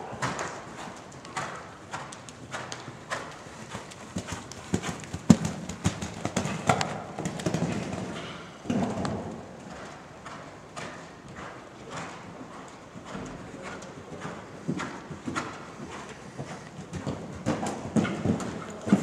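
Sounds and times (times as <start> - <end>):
horse hooves cantering on sand: 0.0 - 19.0.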